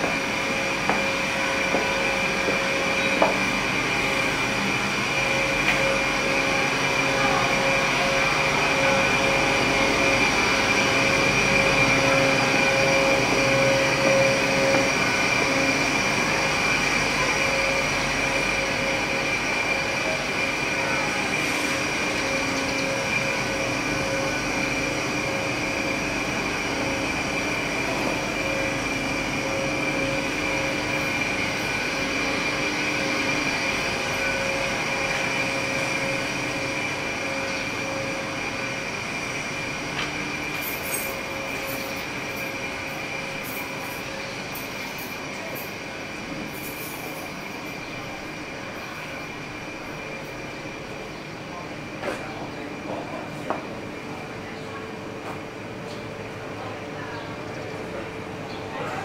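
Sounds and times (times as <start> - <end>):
mechanical hum with held tones: 0.0 - 59.0.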